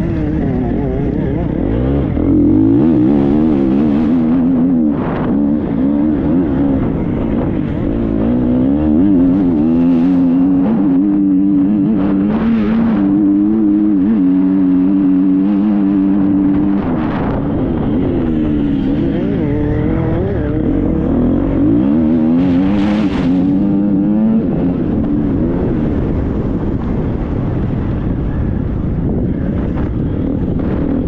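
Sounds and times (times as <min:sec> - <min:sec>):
motocross bike engine revving: 0:00.0 - 0:27.3.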